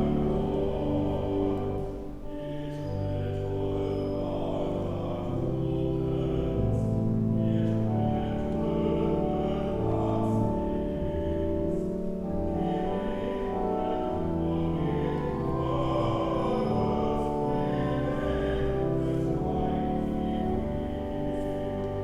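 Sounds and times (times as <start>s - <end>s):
organ chords: 0.0s - 22.0s
solo voice singing: 0.0s - 22.0s.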